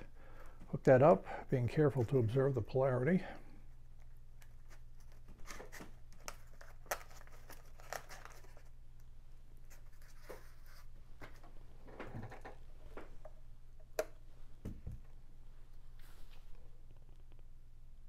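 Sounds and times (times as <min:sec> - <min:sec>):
faint steady low hum: 0:00.0 - 0:18.0.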